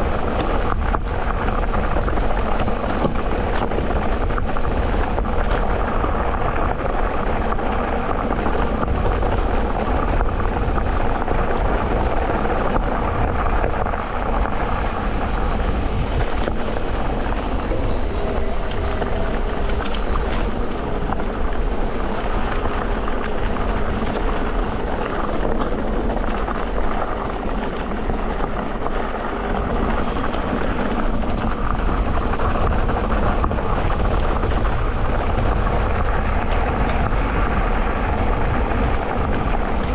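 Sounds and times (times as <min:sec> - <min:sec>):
bike rattling: 0:00.0 - 0:39.9
tyres rolling on dirt: 0:00.0 - 0:39.9.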